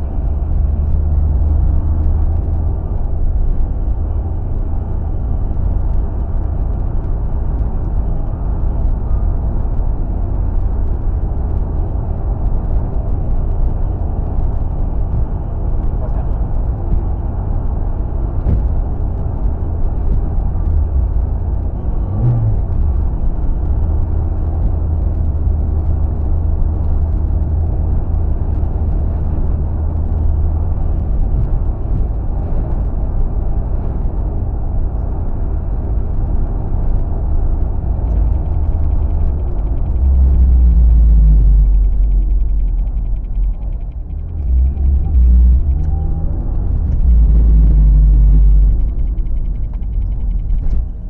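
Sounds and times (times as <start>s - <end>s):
car road and wind noise: 0.0s - 51.0s.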